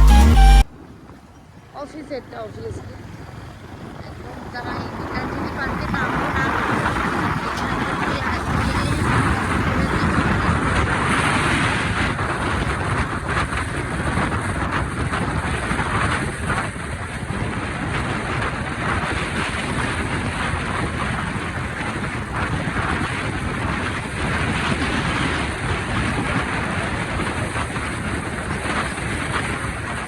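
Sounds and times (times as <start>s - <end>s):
moving vehicle on road: 0.0s - 30.0s
wind buffeting microphone: 0.8s - 30.0s.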